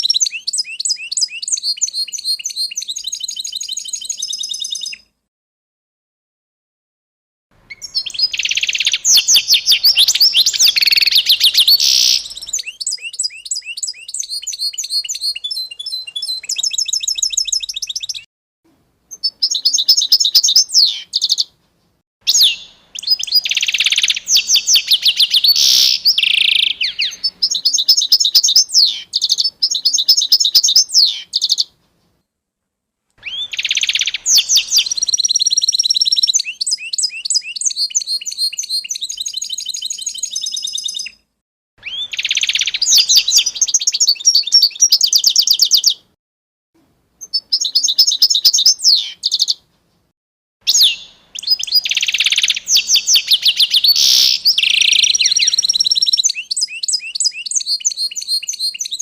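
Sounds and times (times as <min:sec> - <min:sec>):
songbirds singing: 0:00.0 - 0:05.1, 0:07.6 - 0:18.3, 0:19.1 - 0:21.6, 0:22.3 - 0:31.8, 0:33.2 - 0:41.2, 0:41.8 - 0:46.1, 0:47.2 - 0:49.7, 0:50.7 - 0:59.0.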